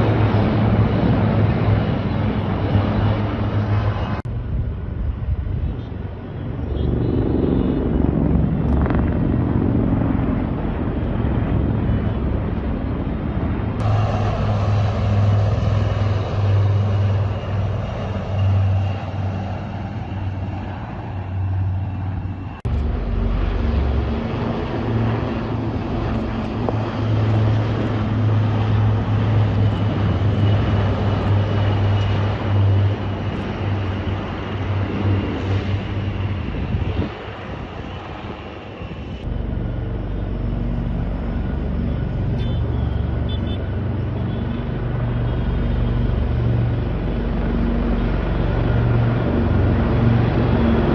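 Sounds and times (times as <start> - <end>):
aircraft engines droning: 0.0 - 50.9.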